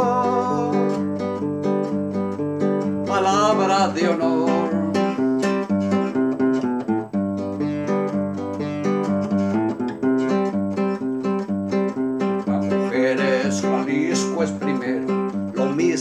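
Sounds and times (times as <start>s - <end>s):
nylon-string guitar strumming: 0.0s - 16.0s.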